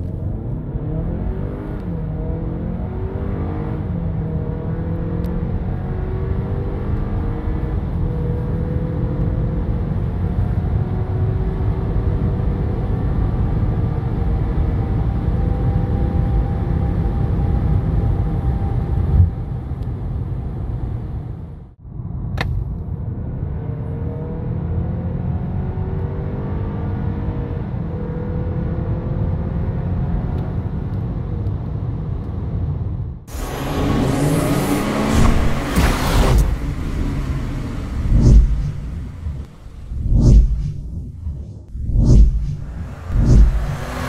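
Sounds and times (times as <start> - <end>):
car engine at full throttle: 0.0 - 20.8, 22.4 - 44.0
road and tyre rumble: 0.0 - 44.0.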